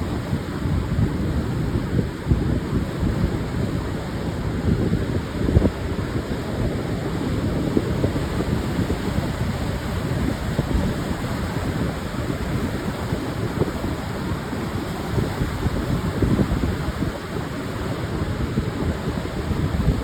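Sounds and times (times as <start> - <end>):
surf washing on sandy beach: 0.0 - 20.0
wind buffeting microphone: 0.0 - 20.0.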